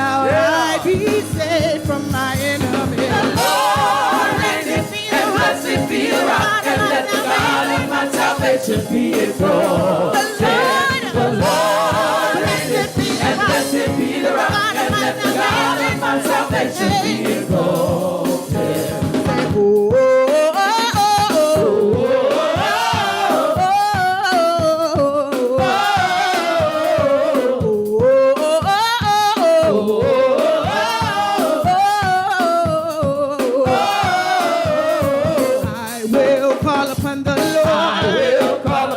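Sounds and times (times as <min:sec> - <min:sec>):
gospel group singing with band: 0:00.0 - 0:38.9.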